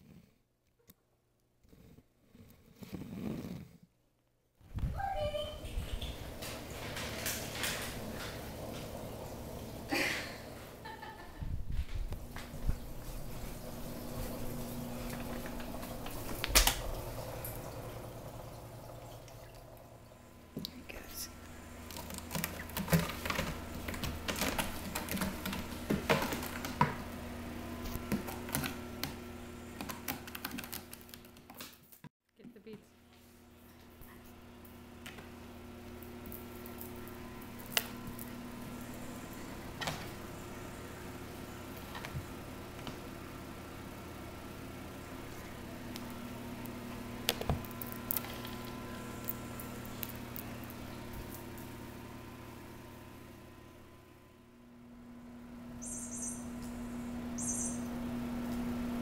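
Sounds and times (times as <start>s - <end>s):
steady low hum: 4.6s - 31.5s, 32.4s - 59.0s.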